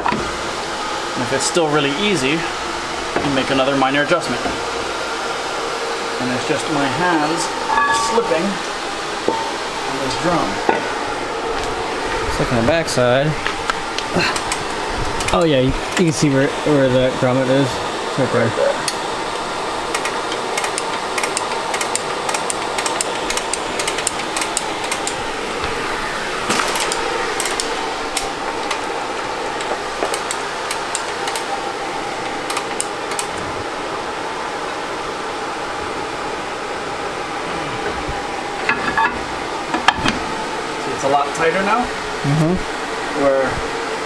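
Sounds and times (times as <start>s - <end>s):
fan-like hum: 0.0s - 44.0s.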